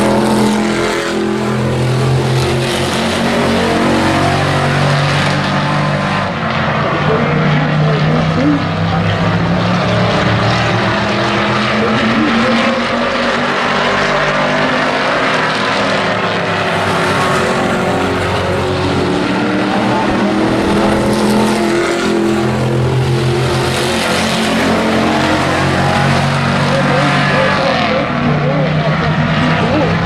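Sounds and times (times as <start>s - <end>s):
race truck engines passing: 0.0s - 30.0s.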